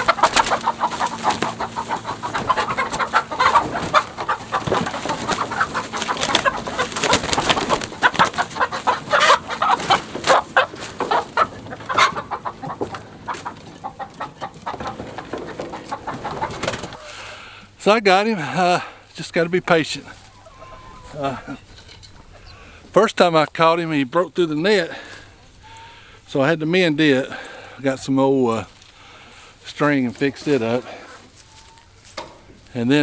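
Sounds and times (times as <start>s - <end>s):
chickens squawking and clucking: 0.0s - 33.0s.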